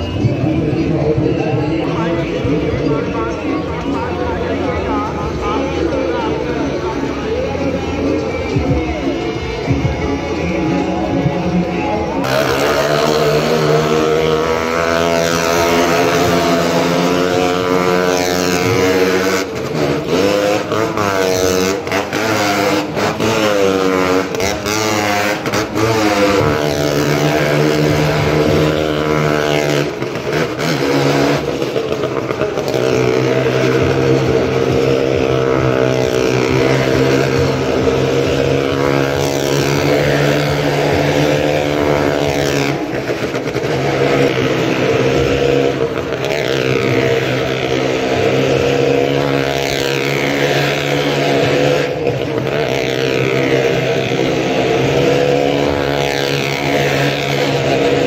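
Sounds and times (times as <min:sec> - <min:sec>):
motorcycle and car engines running hard: 0:00.0 - 0:58.0.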